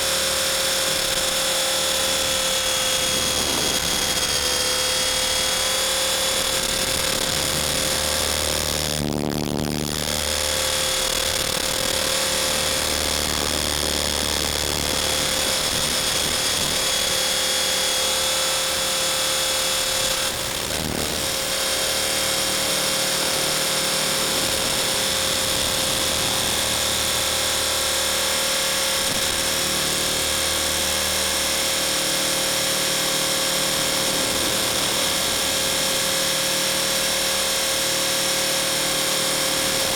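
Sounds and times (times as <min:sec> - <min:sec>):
rc helicopter motor and rotor: 0:00.0 - 0:39.9.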